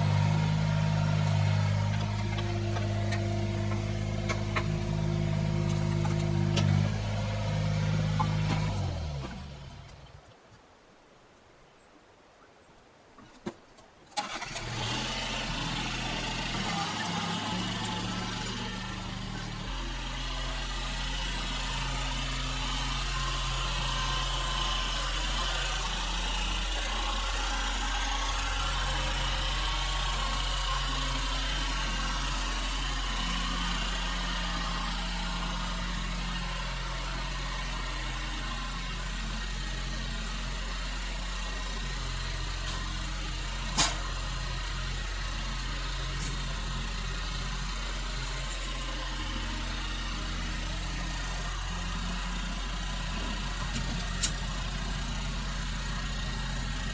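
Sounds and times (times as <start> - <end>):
excavator diesel engine running: 0.0 - 10.2, 14.2 - 56.9.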